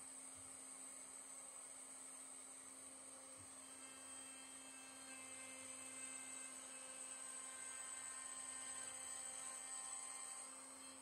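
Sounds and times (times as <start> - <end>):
faint steady hum and hiss: 0.0 - 11.0.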